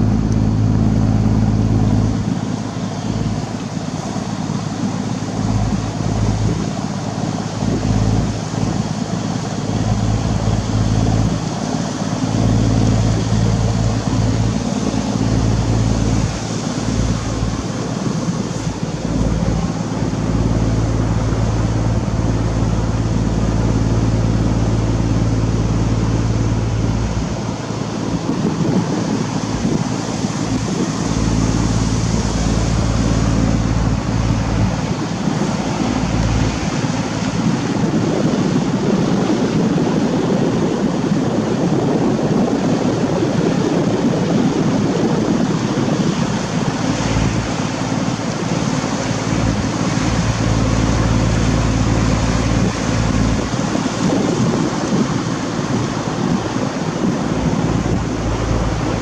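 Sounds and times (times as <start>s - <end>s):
boat engine running: 0.0s - 59.0s
water washing along hull: 0.0s - 59.0s
wind buffeting microphone: 0.0s - 59.0s.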